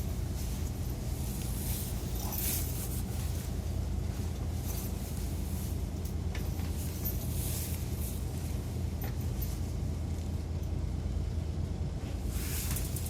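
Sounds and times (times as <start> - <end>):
diesel bus engine drone: 0.0 - 13.0
road and wind noise: 0.0 - 13.0.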